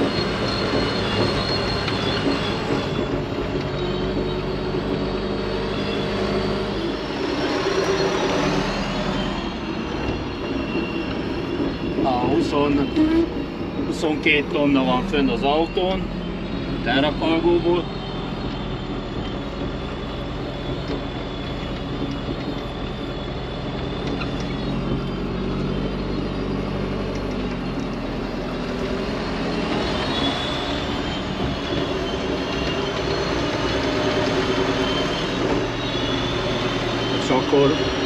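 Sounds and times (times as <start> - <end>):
farm vehicle engine running: 0.0 - 38.0.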